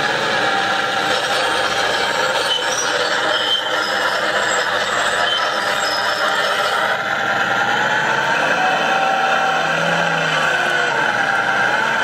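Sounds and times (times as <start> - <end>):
model excavator whirring and rattling: 0.0 - 12.0.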